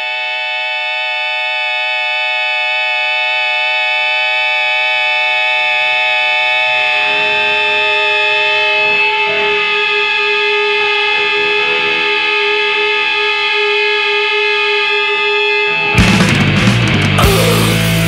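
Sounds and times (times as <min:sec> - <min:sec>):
distorted electric guitar chord: 0:00.0 - 0:18.0.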